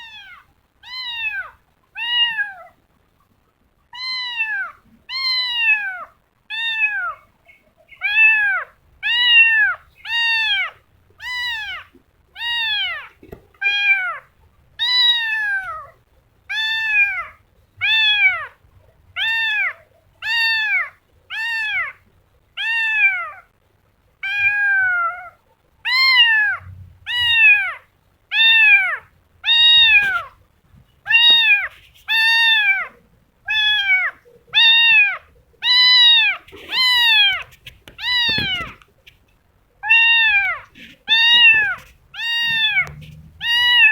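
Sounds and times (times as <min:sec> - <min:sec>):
kitten meowing: 0:00.0 - 0:02.8, 0:04.0 - 0:07.2, 0:08.0 - 0:18.6, 0:19.2 - 0:22.0, 0:22.6 - 0:23.5, 0:24.2 - 0:30.4, 0:31.1 - 0:38.9, 0:39.8 - 0:43.9.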